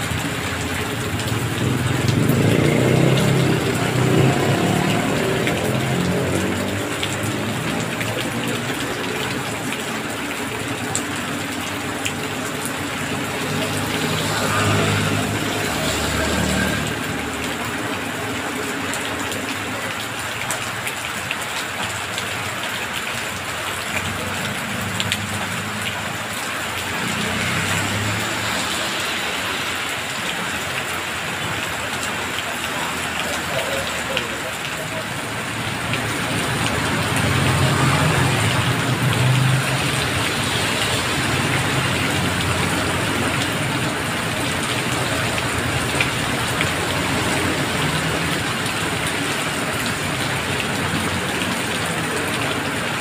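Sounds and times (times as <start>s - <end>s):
heavy rain on a road: 0.0s - 53.0s
traffic passing on wet road: 0.0s - 53.0s.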